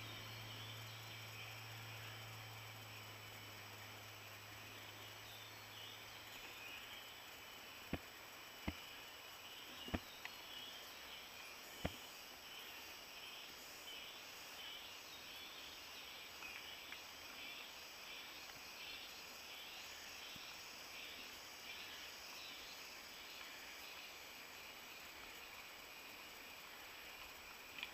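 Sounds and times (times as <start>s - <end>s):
insect chorus trilling: 0.0s - 27.9s.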